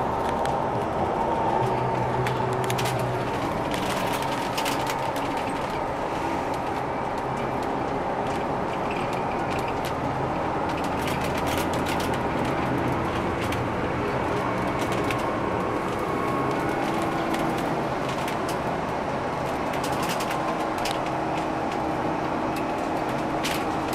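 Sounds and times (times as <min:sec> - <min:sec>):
bus engine hum: 0:00.0 - 0:23.9
rattles and clicks of bus body: 0:00.0 - 0:23.9
road rumble: 0:00.0 - 0:23.9.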